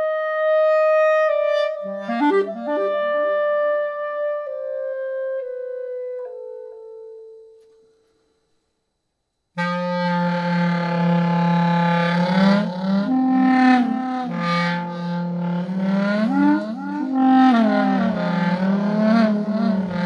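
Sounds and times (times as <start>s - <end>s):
looped layered clarinet drone: 0.0s - 7.7s, 9.6s - 20.0s
clarinet held notes: 0.0s - 7.9s, 9.6s - 20.0s.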